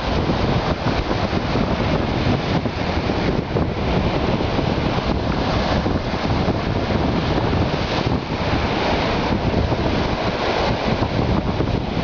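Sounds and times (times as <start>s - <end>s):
sea surf breaking: 0.0s - 12.0s
wind buffeting microphone: 0.0s - 12.0s.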